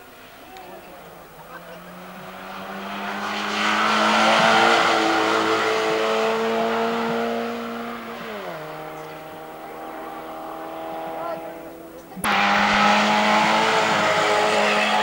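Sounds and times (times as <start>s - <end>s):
racing car engine at high revs: 0.2s - 15.0s.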